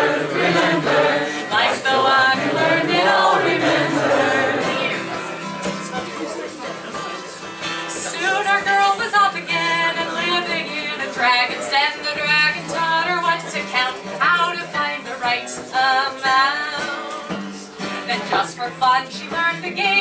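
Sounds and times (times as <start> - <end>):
woman singing wordless melody: 0.0 - 5.2, 8.0 - 17.4, 18.0 - 20.0.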